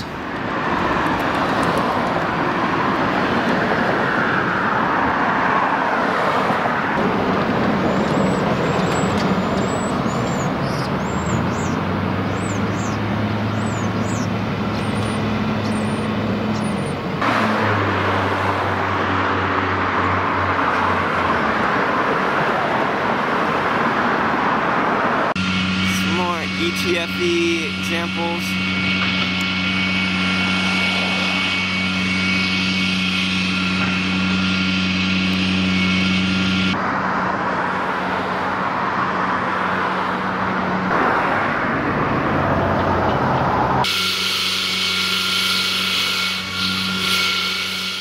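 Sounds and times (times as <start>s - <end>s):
low engine hum: 0.0s - 48.0s
traffic noise: 0.0s - 48.0s.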